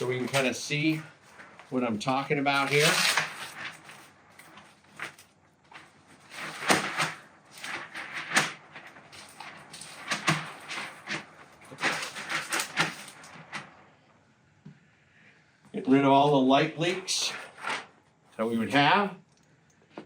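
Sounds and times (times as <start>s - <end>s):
fabric rustling and cinching: 0.0s - 14.0s, 16.1s - 19.0s.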